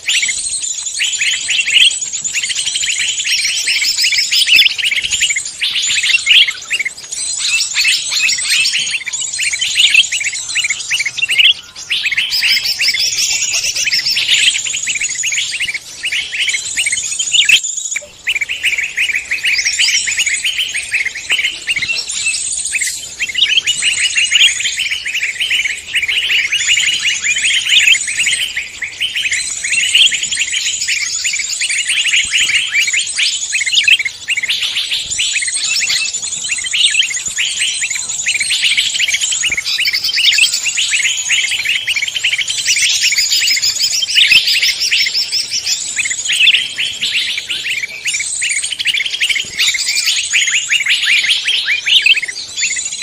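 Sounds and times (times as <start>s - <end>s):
songbirds chirping and twittering: 0.0s - 53.0s.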